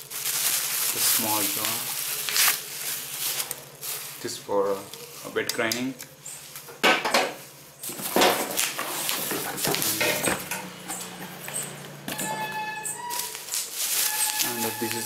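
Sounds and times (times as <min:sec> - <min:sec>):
cardboard and bubble wrap rustling: 0:00.0 - 0:06.7, 0:07.4 - 0:15.0.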